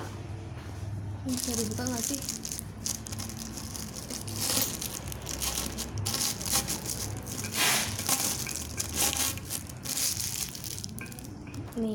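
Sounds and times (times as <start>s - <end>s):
crinkling handling noise: 1.2s - 11.9s.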